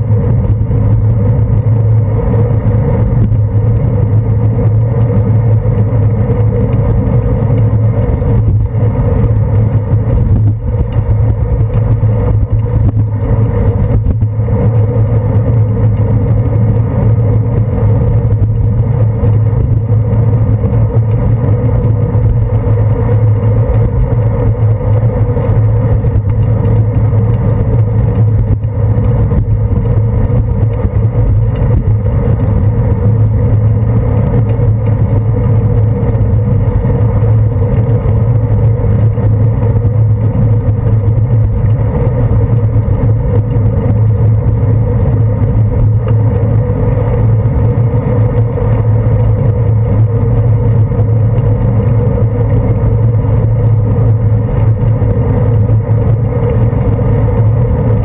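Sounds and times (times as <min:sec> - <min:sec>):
bicycle riding rumble: 0:00.0 - 0:58.0
motor traffic: 0:00.0 - 0:58.0.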